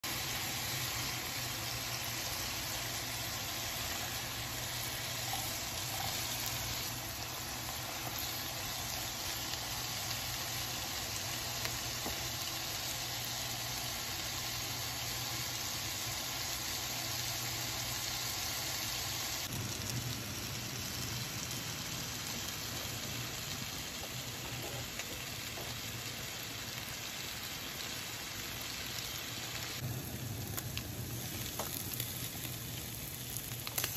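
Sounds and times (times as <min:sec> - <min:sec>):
vegetables sizzling in a frying pan: 0:00.0 - 0:33.9.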